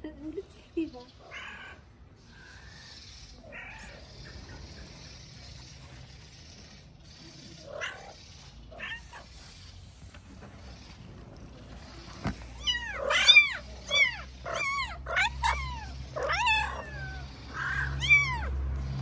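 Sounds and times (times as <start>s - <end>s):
kittens mewing: 1.1s - 6.8s, 7.4s - 9.8s, 10.7s - 19.0s.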